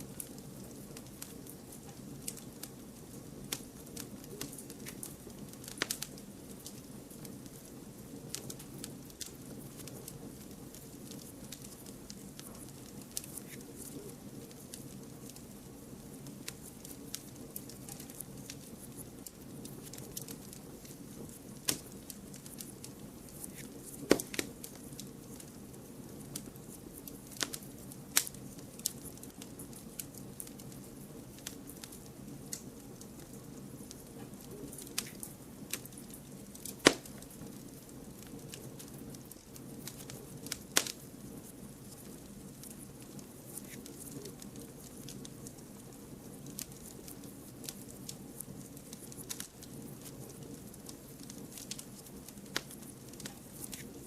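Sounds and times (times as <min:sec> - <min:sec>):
wood fire crackling: 0:00.0 - 0:54.0
sharp pops and snaps: 0:00.2 - 0:15.5, 0:16.4 - 0:25.6, 0:26.2 - 0:41.2, 0:41.8 - 0:54.0.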